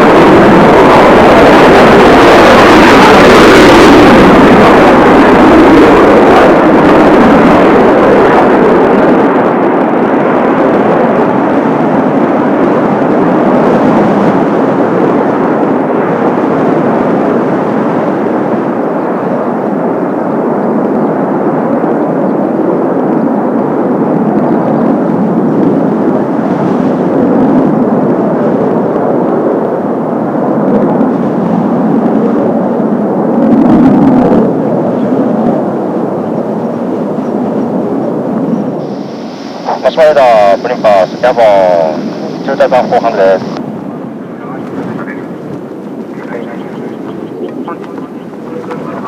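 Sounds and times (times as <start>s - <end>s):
jet roar: 0.0s - 49.0s.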